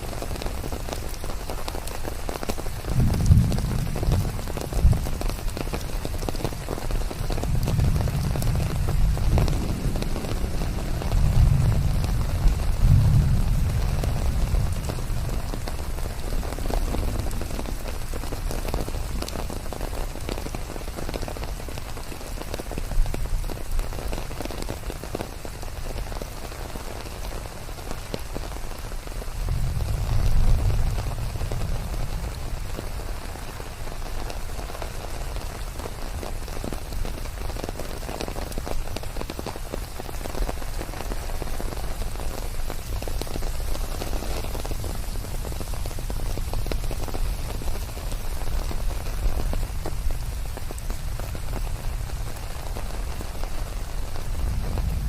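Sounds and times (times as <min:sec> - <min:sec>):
rain patter in forest: 0:00.0 - 0:55.0.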